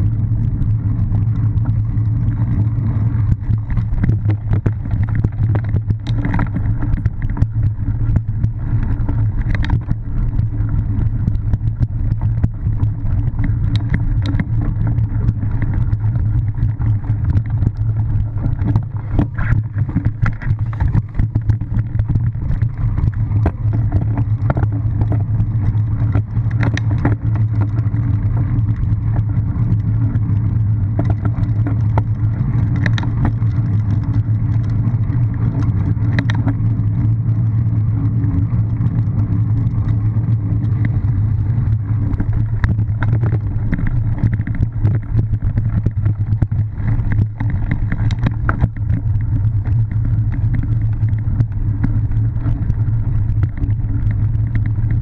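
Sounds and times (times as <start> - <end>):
bike rattles and clicks: 0.0 - 55.0
wind and tyre rumble: 0.0 - 55.0.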